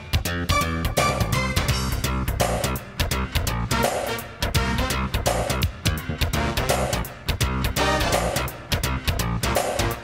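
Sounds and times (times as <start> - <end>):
background music with drums and guitar: 0.0 - 10.0.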